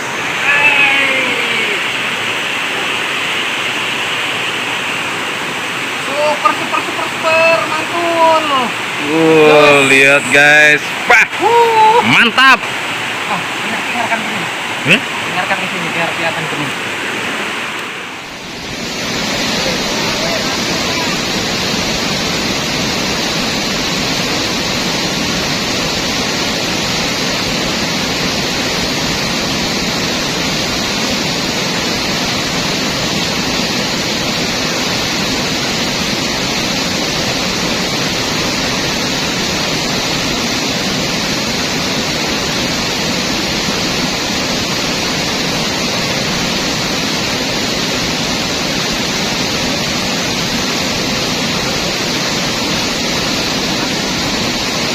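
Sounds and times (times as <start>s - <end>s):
river water rushing over rapids: 0.0s - 54.9s.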